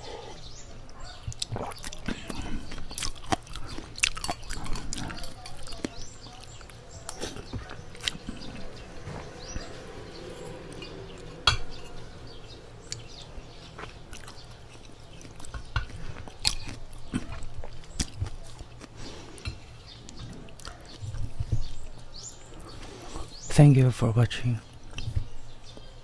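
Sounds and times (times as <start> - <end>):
close chewing of noodles: 0.0 - 23.5.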